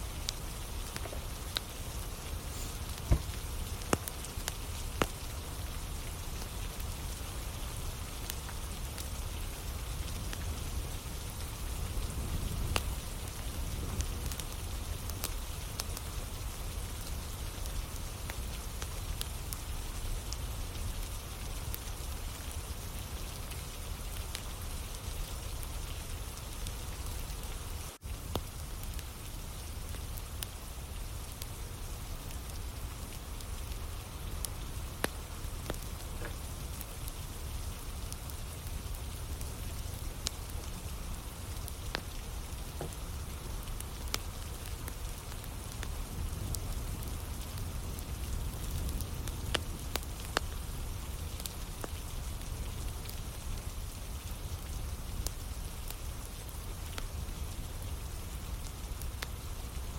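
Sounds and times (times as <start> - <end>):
campfire crackling and popping: 0.0 - 59.9
steady rain falling: 0.0 - 59.9.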